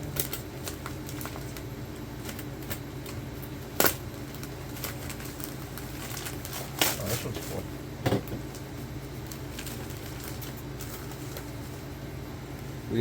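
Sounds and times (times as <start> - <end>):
packaging being unwrapped: 0.0 - 7.7, 8.3 - 11.8
steady low hum: 0.0 - 13.0.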